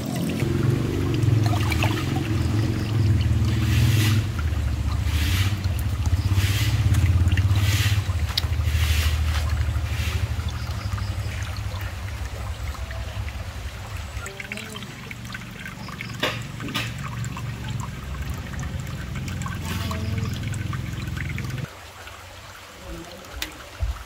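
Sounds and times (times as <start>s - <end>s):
water pouring into pond: 0.0s - 24.0s.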